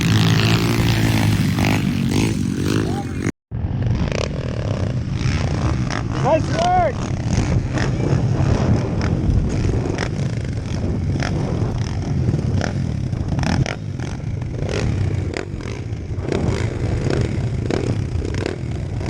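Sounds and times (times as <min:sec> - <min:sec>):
pit bike engines running: 0:00.0 - 0:19.0.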